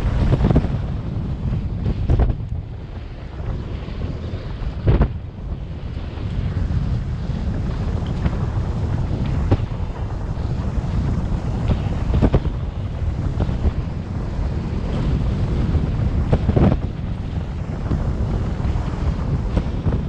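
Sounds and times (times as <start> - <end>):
steady low rumble: 0.0 - 20.0
wind buffeting microphone: 0.0 - 20.0.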